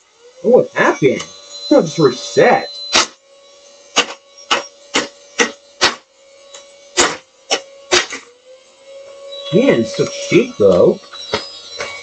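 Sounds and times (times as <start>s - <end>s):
toy vacuum motor hum: 0.0s - 12.0s.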